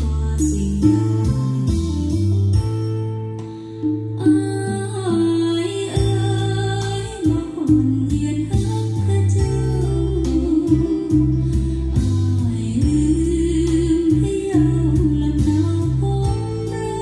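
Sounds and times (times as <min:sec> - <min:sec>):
woman singing slow melody: 0:00.0 - 0:02.5, 0:03.8 - 0:17.0
steady bass line: 0:00.0 - 0:04.2, 0:05.4 - 0:17.0
plucked strings: 0:00.0 - 0:17.0.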